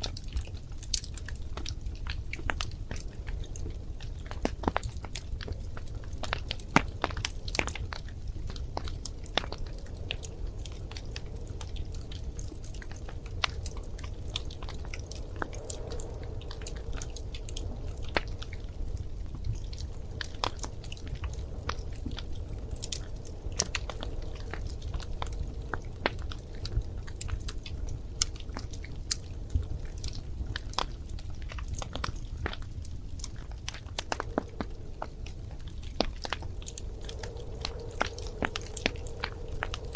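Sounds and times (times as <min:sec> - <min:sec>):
fire crackling and popping: 0:00.0 - 0:39.9
fire flame rumble: 0:00.0 - 0:39.9.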